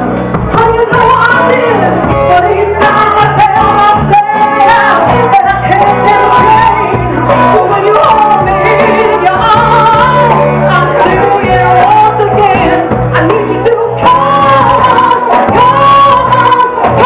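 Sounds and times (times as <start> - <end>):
live band playing: 0.0 - 17.0
woman singing: 0.4 - 17.0.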